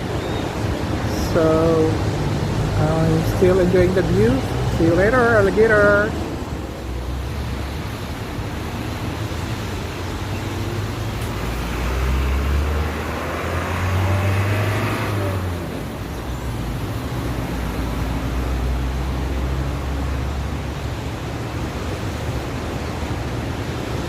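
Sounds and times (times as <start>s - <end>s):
vehicle passing: 0.0s - 22.5s
road traffic: 0.0s - 24.0s.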